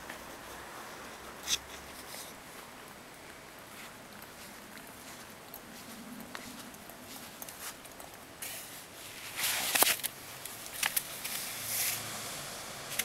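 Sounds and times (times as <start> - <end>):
rustling on grass: 0.0 - 13.0.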